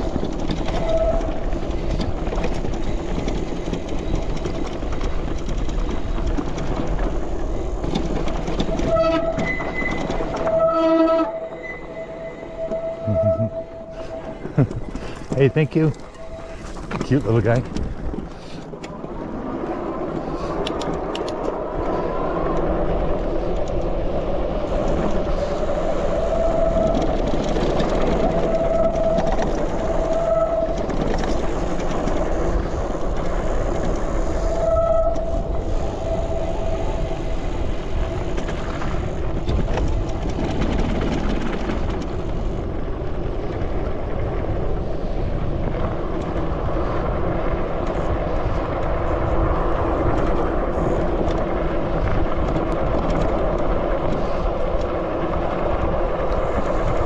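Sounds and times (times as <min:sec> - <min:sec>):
tyres rolling on dirt: 0:00.0 - 0:11.3, 0:13.1 - 0:57.0
wind rumble on microphone: 0:00.0 - 0:57.0.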